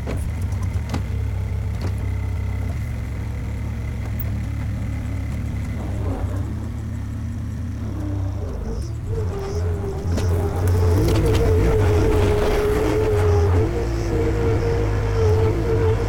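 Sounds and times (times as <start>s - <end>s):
skid steer engine running: 0.0s - 16.0s.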